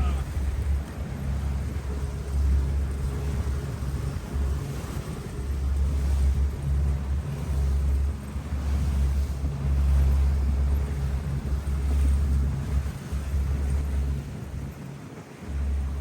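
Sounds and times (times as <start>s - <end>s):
hiss of wind and water: 0.0s - 16.0s
small motorboat running: 0.0s - 16.0s
wind rumble on microphone: 0.0s - 16.0s.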